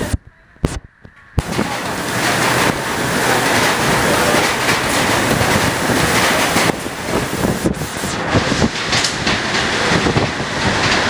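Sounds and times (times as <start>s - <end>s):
strong wind: 0.0s - 11.0s
driving rain: 1.4s - 11.0s.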